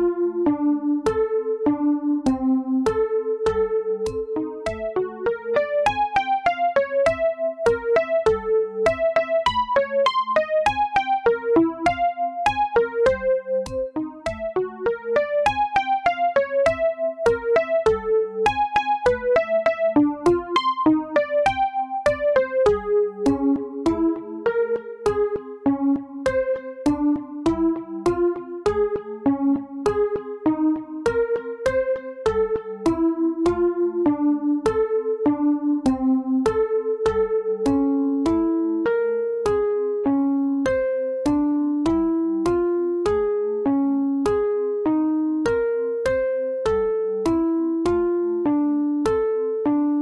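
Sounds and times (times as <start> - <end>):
gentle instrumental melody: 0.0 - 50.0.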